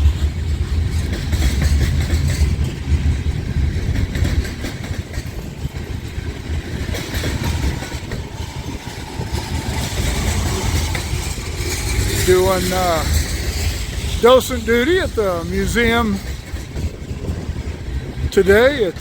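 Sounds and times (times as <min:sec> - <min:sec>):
train rolling past: 0:00.0 - 0:19.0.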